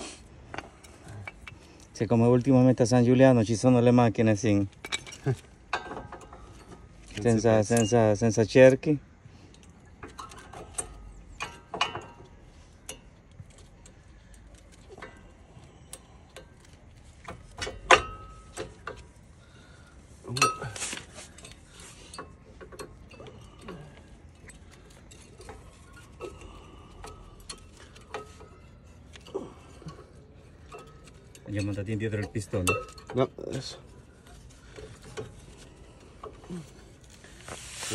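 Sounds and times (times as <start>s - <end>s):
hand tools clinking on metal: 0.5s - 37.9s.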